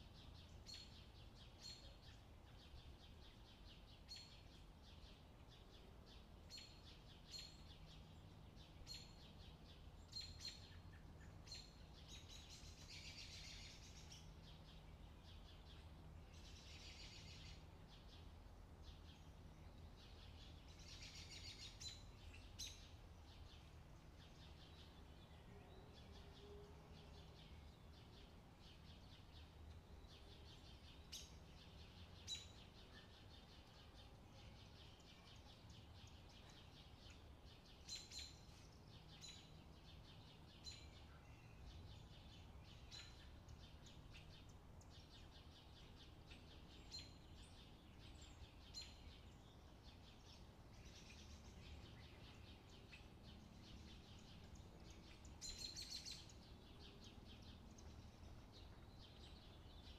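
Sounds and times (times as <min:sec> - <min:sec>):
faint bird chirping: 0:00.0 - 0:59.9.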